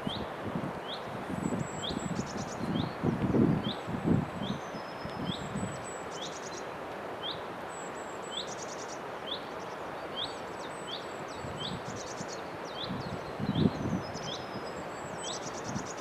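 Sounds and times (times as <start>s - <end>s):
small birds chirping: 0.0s - 3.0s, 3.6s - 16.0s
outdoor background hiss: 0.0s - 16.0s.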